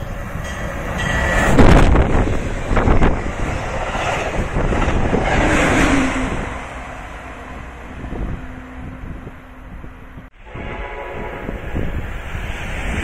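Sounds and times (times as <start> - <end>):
passenger train passing: 0.0 - 13.0.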